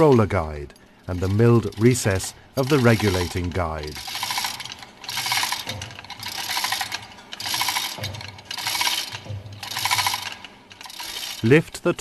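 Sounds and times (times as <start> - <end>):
ratchet spanner clicking: 0.7 - 11.5.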